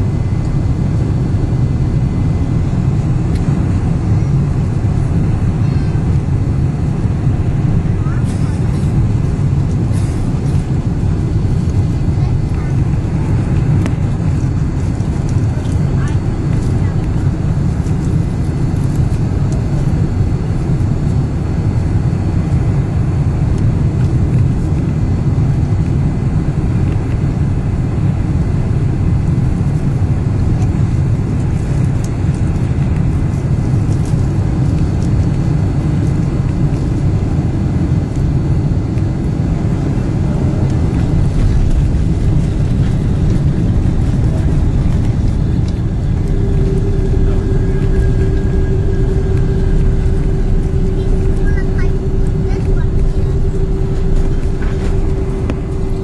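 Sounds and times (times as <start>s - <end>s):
airplane engines rumbling: 0.0s - 56.0s
steady whine: 0.0s - 56.0s.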